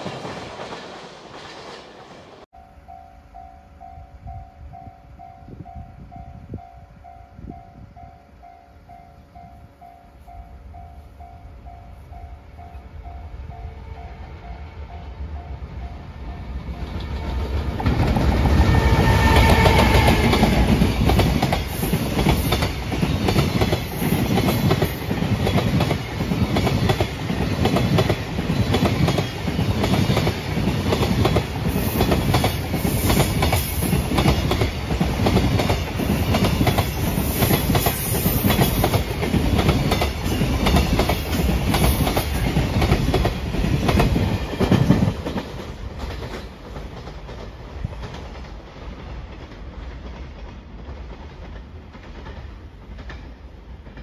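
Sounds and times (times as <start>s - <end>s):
electric locomotive passing: 0.0s - 54.0s.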